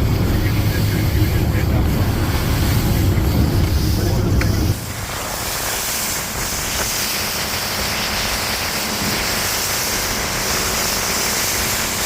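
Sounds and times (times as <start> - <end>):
boat engines humming: 0.0 - 12.0
wind and spray rushing: 0.0 - 12.0.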